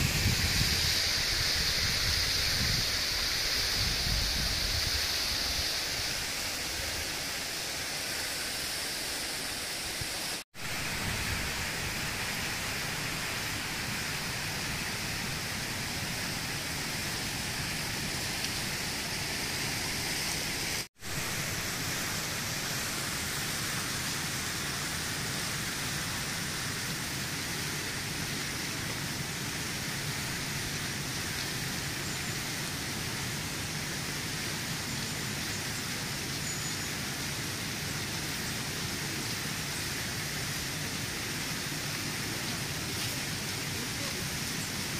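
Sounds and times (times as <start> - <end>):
fountain jets splashing into pools: 0.0 - 44.9.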